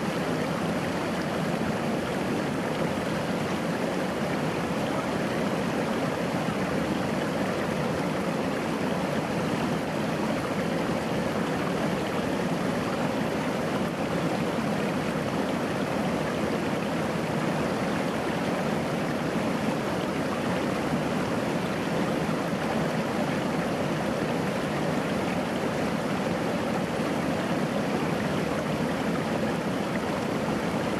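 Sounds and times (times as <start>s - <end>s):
stream babbling over rocks: 0.0s - 30.9s.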